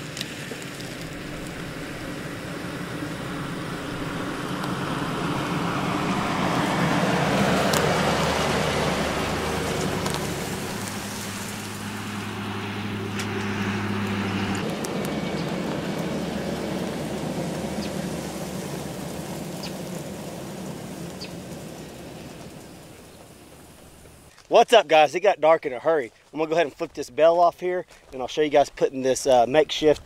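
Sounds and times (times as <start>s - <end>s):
pickup truck engine passing: 0.0s - 24.3s.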